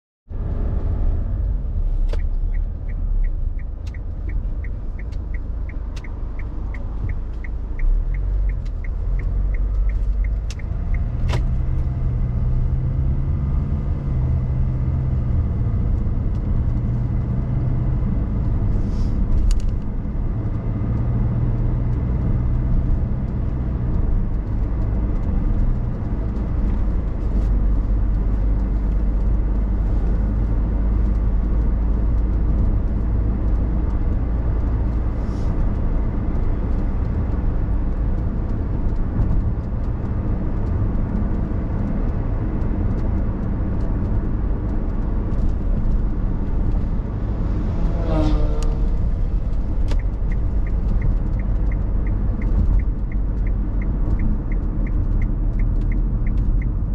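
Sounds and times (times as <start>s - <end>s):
car engine and road noise: 0.3s - 56.9s.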